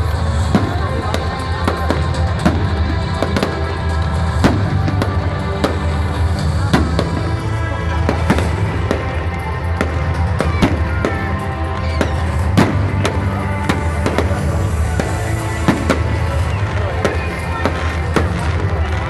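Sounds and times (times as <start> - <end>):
fireworks bursting: 0.0 - 19.0
music: 0.0 - 19.0.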